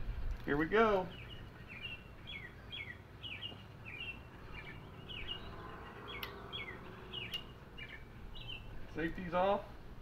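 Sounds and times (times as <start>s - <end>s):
songbird chirping: 0.3s - 9.9s.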